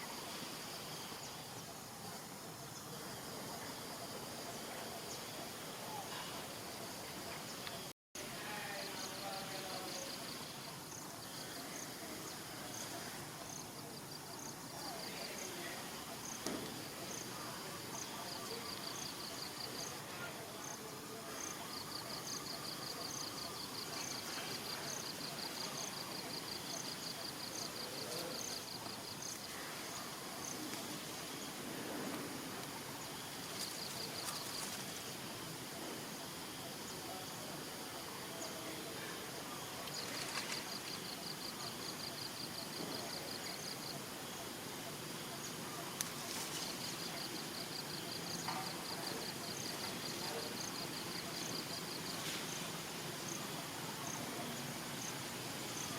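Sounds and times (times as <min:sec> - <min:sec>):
high insect chirp: 0:00.0 - 0:55.9
insects trilling: 0:00.0 - 0:55.9.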